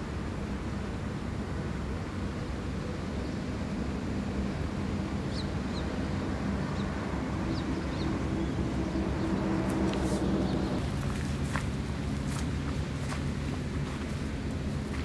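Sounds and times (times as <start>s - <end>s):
distant motor drone: 0.0s - 15.0s.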